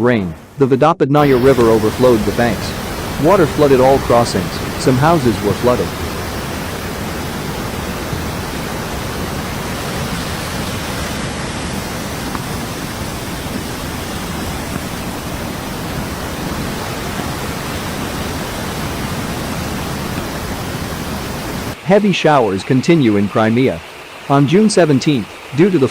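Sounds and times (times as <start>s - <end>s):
floodwater rushing: 0.0s - 25.9s.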